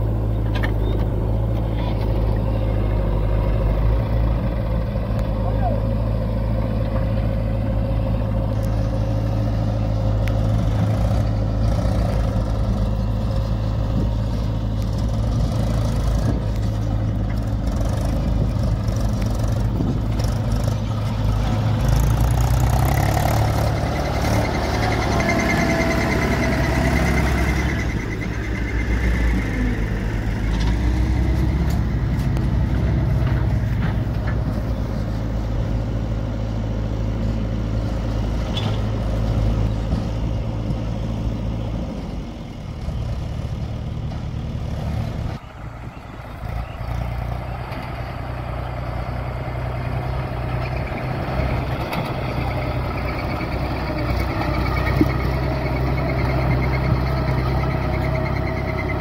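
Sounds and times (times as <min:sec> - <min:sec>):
backhoe loader diesel engine: 0:00.0 - 0:59.0
tractor diesel engine: 0:00.0 - 0:59.0.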